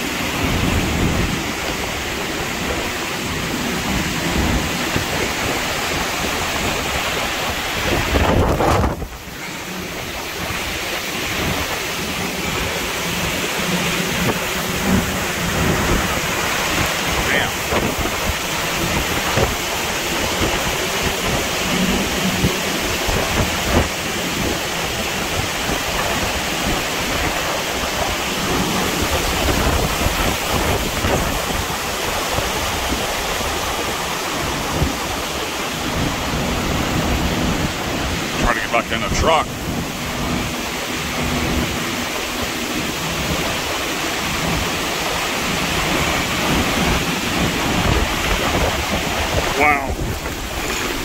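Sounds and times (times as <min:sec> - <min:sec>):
driving rain: 0:00.0 - 0:51.0
wind roaring: 0:00.0 - 0:51.0.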